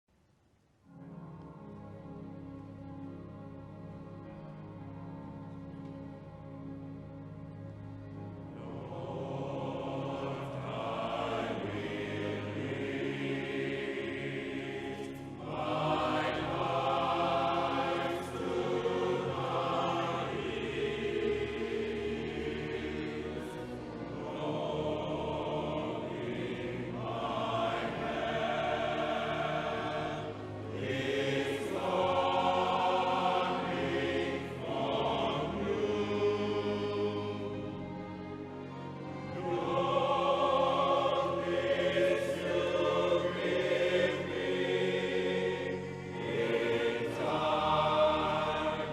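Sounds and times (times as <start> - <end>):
choir singing: 0.9 - 48.9.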